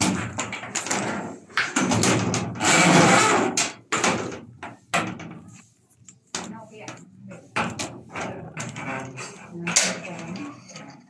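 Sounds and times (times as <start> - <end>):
knocks and scraping on metal: 0.0 - 11.0.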